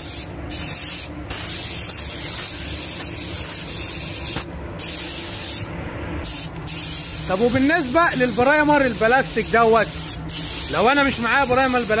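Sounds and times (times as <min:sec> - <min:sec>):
paint spray gun hissing: 0:00.0 - 0:12.0.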